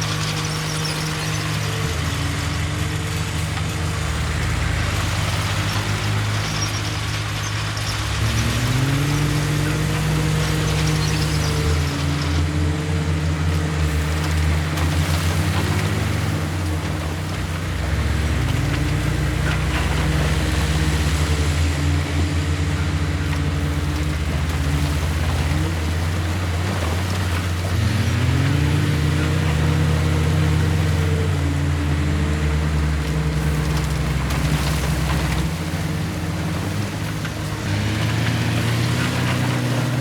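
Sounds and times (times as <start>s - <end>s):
heavy diesel engine revving: 0.0s - 40.0s.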